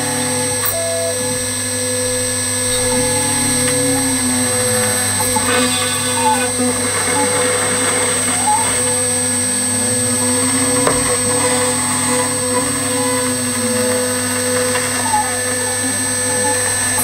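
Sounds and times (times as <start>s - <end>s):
router spindle cutting metal: 0.0s - 17.0s.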